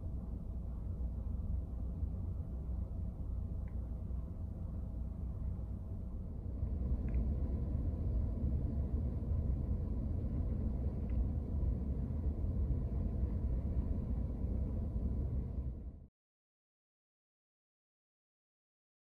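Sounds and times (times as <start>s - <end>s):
faint steady hum: 0.0s - 16.1s
steady low rumble: 0.0s - 16.1s.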